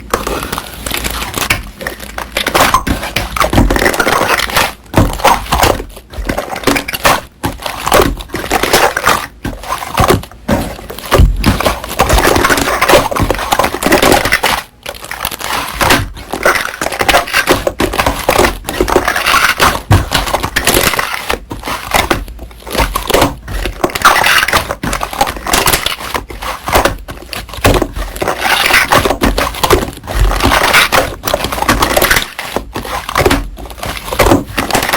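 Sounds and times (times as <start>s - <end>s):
hands squishing slime: 0.0s - 34.9s.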